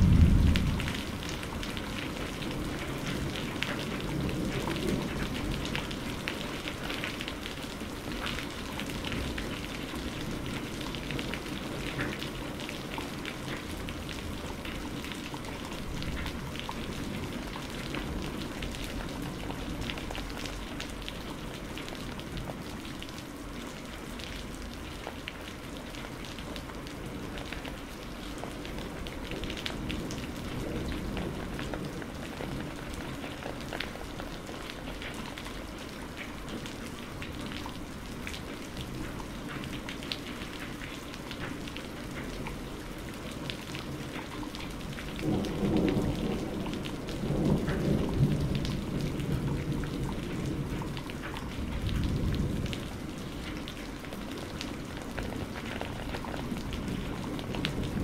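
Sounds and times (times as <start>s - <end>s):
raindrops ticking close by: 0.0s - 58.0s
steady rain hiss: 0.0s - 58.0s.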